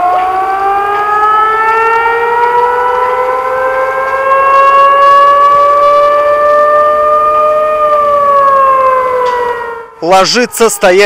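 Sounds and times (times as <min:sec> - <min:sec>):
warning siren wailing: 0:00.0 - 0:11.0.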